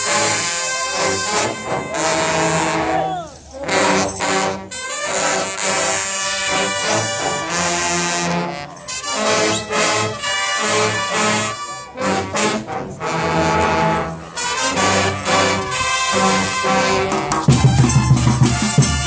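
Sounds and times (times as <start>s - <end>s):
brass band playing cumbia: 0.0s - 19.0s.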